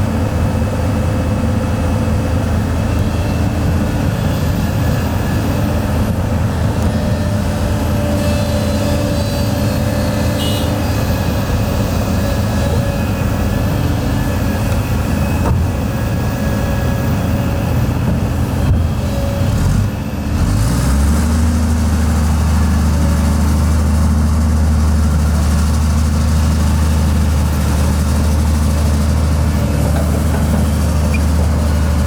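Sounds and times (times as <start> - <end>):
heavy diesel engine rumbling: 0.0 - 32.0.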